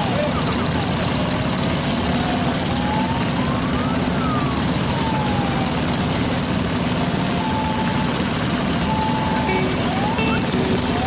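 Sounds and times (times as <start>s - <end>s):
motorcycle engine hum: 0.0s - 11.0s.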